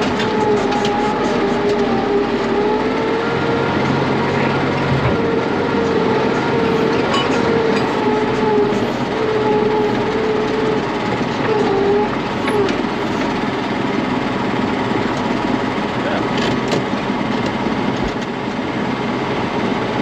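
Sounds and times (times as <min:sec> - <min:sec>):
wavering whine: 0:00.0 - 0:16.2
heavy machine engine running: 0:00.0 - 0:20.0.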